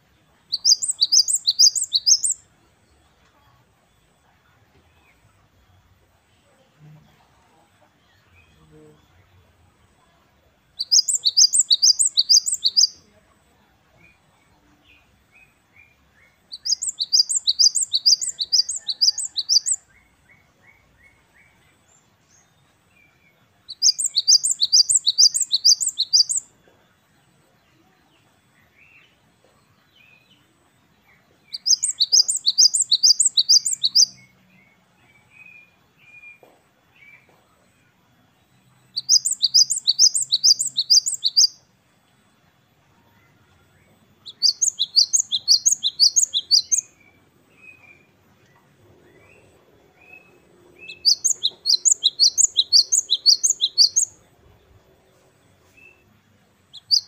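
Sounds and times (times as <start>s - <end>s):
great tit singing: 0.0s - 3.1s, 10.7s - 13.1s, 14.0s - 37.3s, 38.3s - 41.7s, 43.2s - 57.0s
faint bird chirping: 0.0s - 57.0s.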